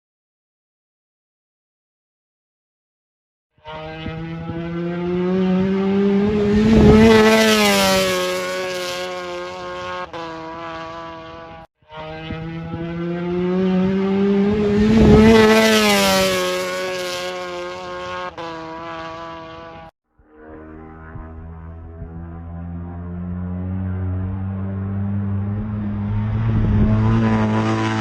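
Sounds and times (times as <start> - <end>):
motorcycle passing at speed: 3.6 - 28.0.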